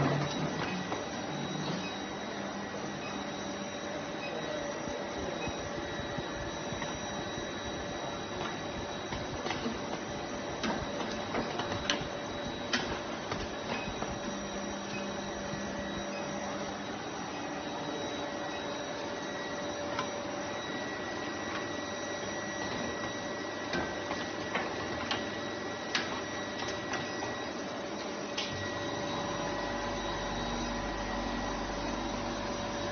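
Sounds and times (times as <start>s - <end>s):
machine hum with high whine: 0.0s - 32.9s.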